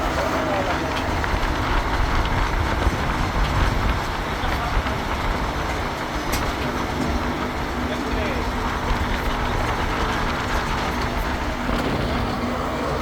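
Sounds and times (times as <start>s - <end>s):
road train engine and wheels rumbling: 0.0s - 13.0s.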